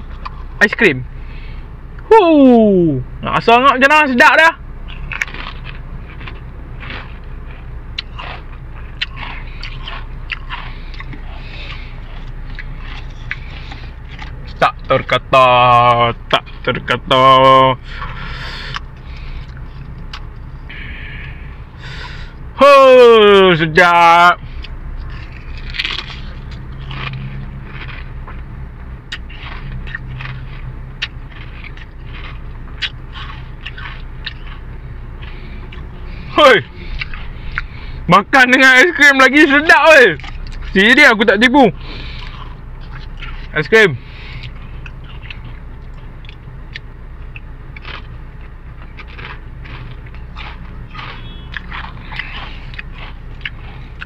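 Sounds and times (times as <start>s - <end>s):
steady low hum: 0.0s - 54.0s
crisps crunching while chewed: 4.9s - 22.2s, 24.5s - 54.0s.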